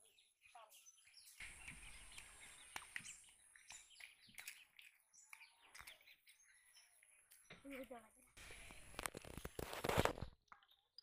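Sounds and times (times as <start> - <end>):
small birds chirping: 0.0 - 9.6, 10.4 - 11.0.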